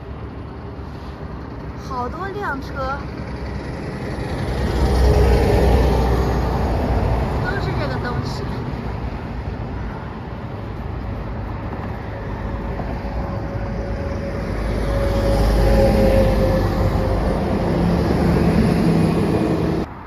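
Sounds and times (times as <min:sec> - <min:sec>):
heavy trucks driving past: 0:00.0 - 0:20.0.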